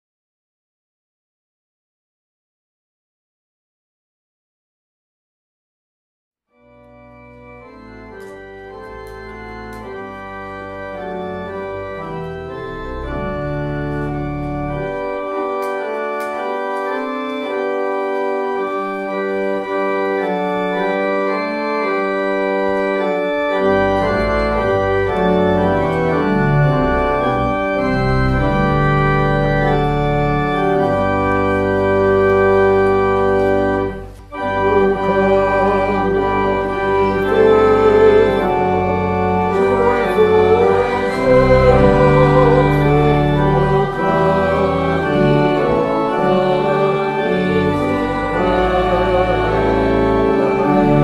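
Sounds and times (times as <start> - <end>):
organ playing slow chords: 6.6 - 51.0.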